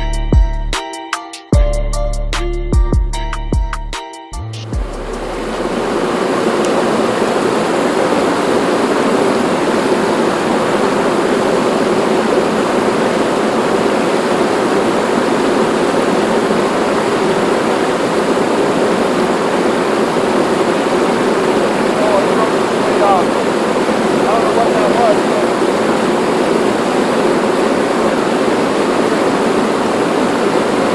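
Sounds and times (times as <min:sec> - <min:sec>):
river water pouring over a dam: 0:04.8 - 0:30.9.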